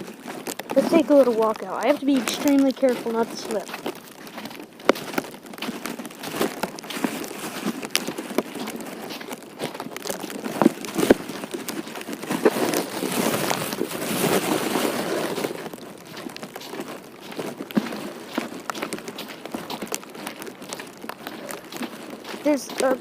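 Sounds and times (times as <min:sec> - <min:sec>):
footsteps crunching on icy slush: 0:00.0 - 0:23.0
sleet pattering: 0:00.0 - 0:23.0.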